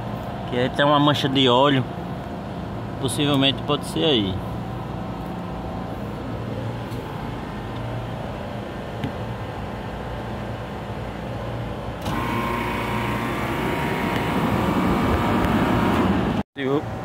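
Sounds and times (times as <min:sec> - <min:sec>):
refrigeration machinery hum: 0:00.0 - 0:17.0.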